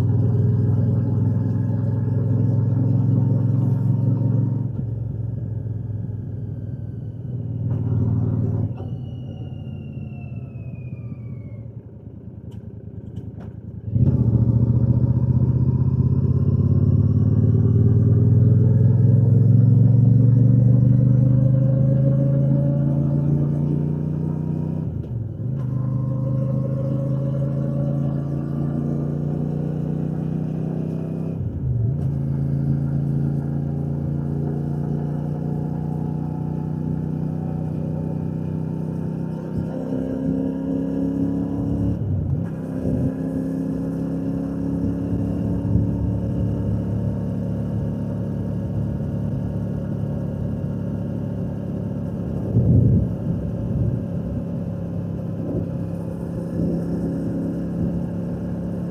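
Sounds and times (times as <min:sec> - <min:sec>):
motorcycle engine revving: 0:00.0 - 0:08.8, 0:13.8 - 0:58.9.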